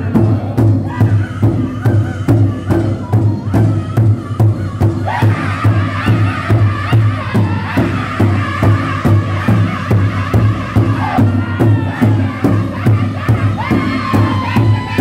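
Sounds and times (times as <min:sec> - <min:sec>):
high-pitched group singing: 0:00.0 - 0:15.0
large hide drum beating: 0:00.0 - 0:15.0.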